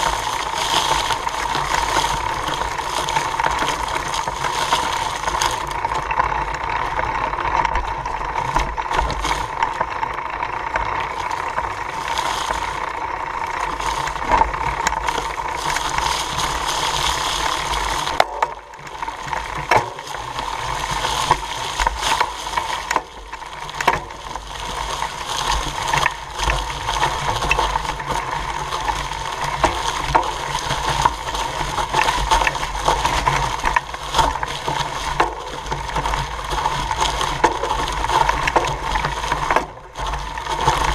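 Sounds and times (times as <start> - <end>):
bike chain and frame rattling: 0.0 - 40.9
tyres crunching through leaves: 0.0 - 40.9.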